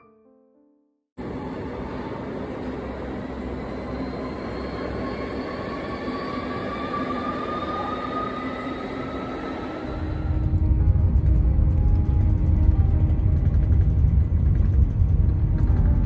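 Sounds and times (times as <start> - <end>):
wheels rumbling on rails: 1.2 - 16.0.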